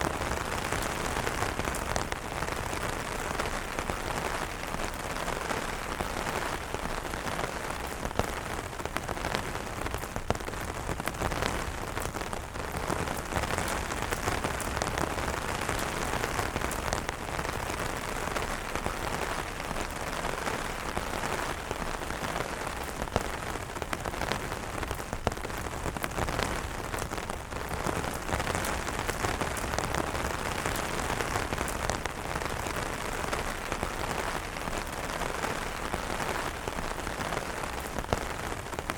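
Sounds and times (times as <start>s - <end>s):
rain hissing: 0.0s - 38.9s
raindrops tapping on umbrella fabric: 0.0s - 38.9s.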